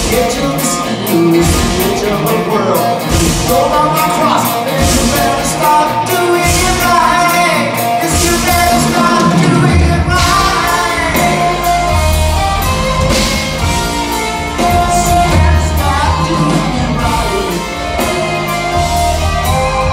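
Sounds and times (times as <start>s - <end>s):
lead vocal singing: 0.0s - 19.9s
rock band playing live: 0.0s - 19.9s.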